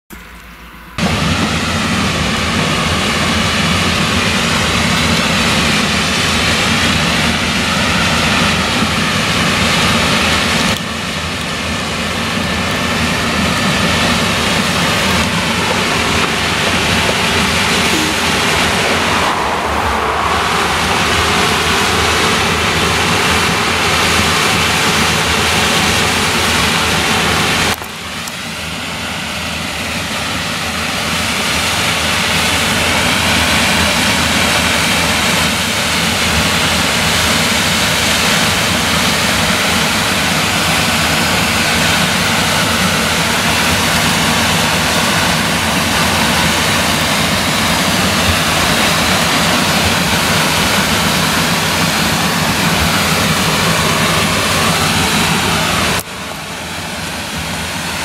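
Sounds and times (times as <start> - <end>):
combine harvester running: 0.1 - 58.0.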